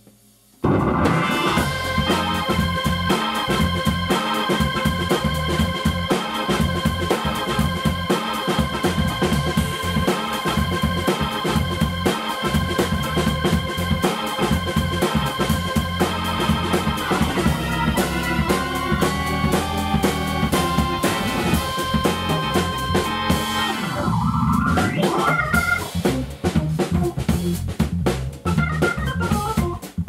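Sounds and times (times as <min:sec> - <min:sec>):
drums and cymbals beat: 0:00.0 - 0:30.0
organ playing funk chords: 0:00.6 - 0:30.0
punchy bass notes: 0:00.6 - 0:30.0.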